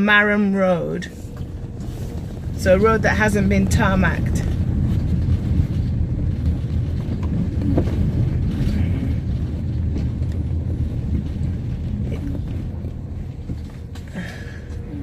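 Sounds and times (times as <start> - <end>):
tyres and engine rumble: 0.0 - 15.0.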